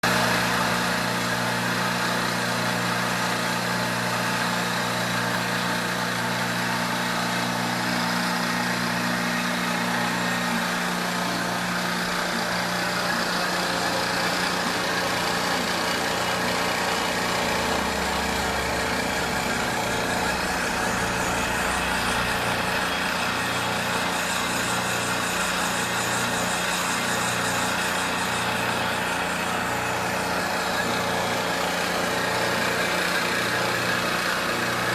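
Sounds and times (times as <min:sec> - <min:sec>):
cutter cutting steel: 0:00.0 - 0:34.9
milling machine motor hum: 0:00.0 - 0:34.9.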